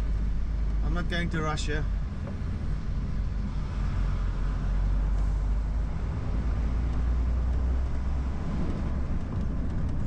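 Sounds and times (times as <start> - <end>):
truck diesel engine rumbling: 0.0 - 10.0.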